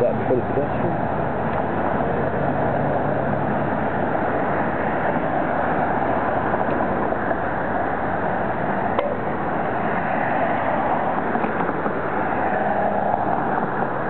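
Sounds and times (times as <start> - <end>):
street traffic: 0.0 - 14.0
wind over microphone: 0.0 - 14.0.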